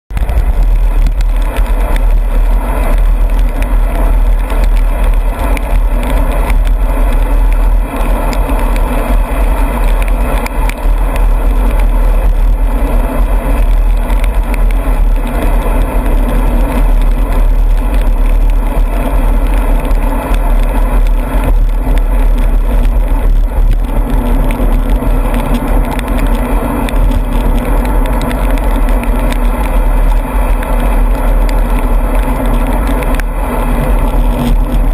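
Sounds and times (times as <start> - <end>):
rain hiss: 0.1 - 34.9
vehicle engine rumble: 0.1 - 34.9.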